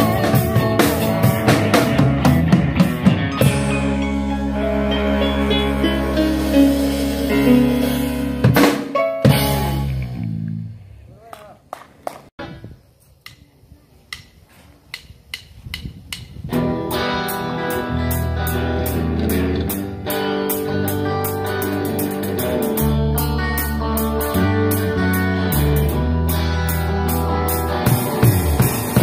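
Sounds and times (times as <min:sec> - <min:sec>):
electric guitar chords: 0:00.0 - 0:11.0, 0:16.5 - 0:29.0
bass guitar low notes: 0:00.0 - 0:11.2, 0:15.6 - 0:29.0.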